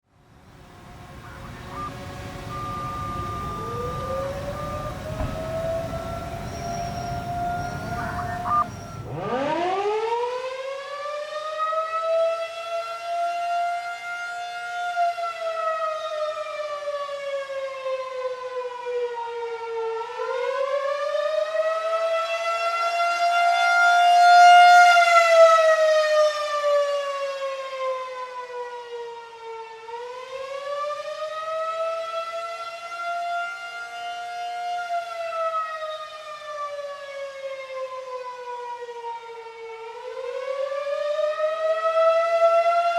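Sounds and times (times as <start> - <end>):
tornado siren: 0.1 - 42.9.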